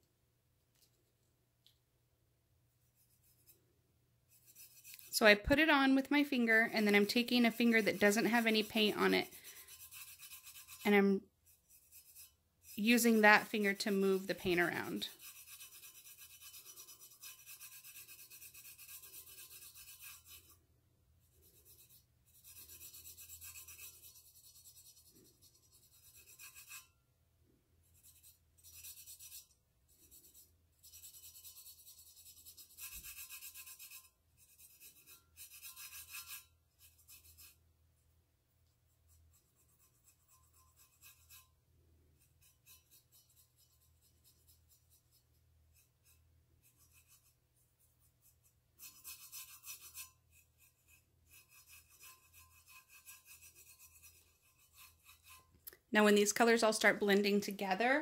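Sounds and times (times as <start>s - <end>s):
fingertips rubbing on steel: 4.3s - 20.6s, 21.2s - 27.0s, 27.8s - 37.7s, 38.6s - 58.0s.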